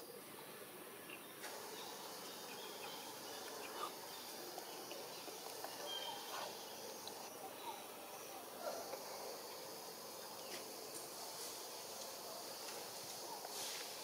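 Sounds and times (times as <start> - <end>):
faint insect hiss: 0.0 - 14.0.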